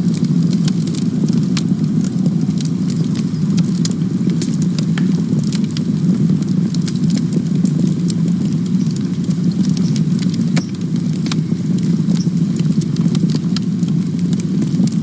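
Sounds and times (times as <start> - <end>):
campfire crackling: 0.0 - 15.0
flames rumbling: 0.0 - 15.0.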